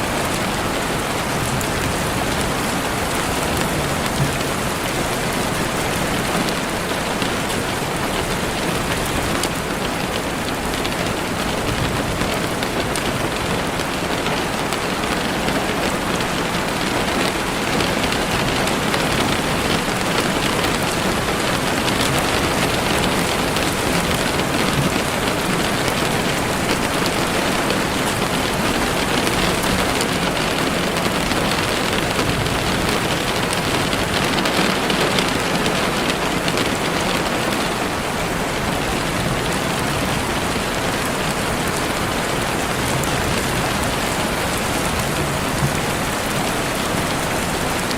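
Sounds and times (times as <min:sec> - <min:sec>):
heavy rain on leaves: 0:00.0 - 0:47.9.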